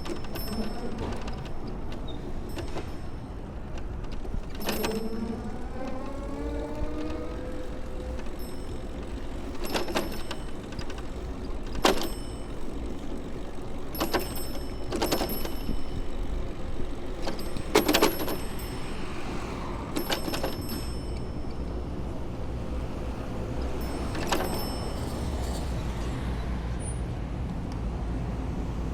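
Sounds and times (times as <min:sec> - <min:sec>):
bicycle metallic rattles: 0:00.0 - 0:26.2
wind and road noise: 0:00.0 - 0:28.9.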